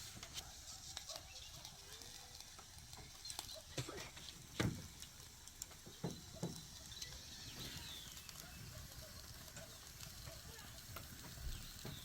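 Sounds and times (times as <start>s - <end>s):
wood fire crackling faintly: 0.0s - 12.0s.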